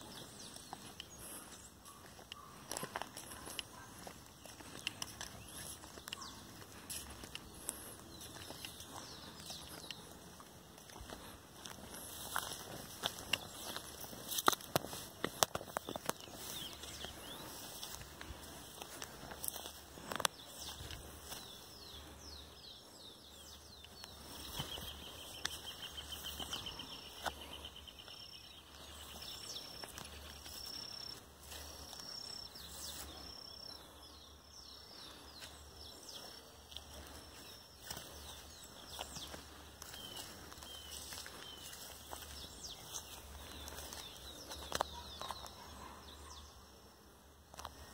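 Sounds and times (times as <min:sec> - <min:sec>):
footsteps through grass: 0:00.0 - 0:46.5
songbirds chirping: 0:00.0 - 0:47.9.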